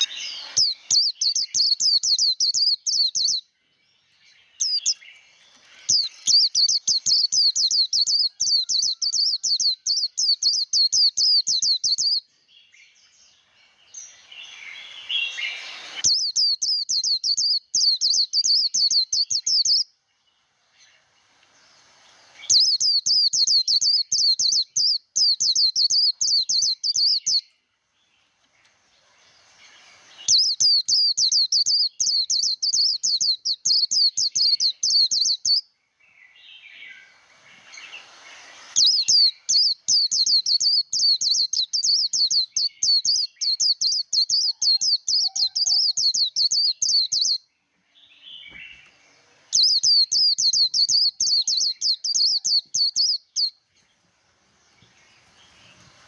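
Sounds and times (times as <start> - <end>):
bird singing rapid high song: 0.0 - 56.0.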